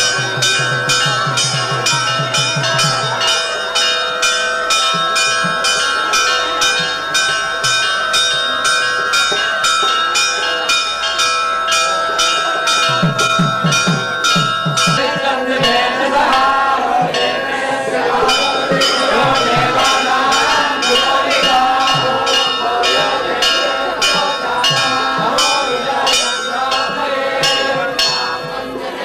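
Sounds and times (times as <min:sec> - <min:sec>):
temple bell ringing: 0:00.0 - 0:29.0
voices: 0:00.0 - 0:29.0.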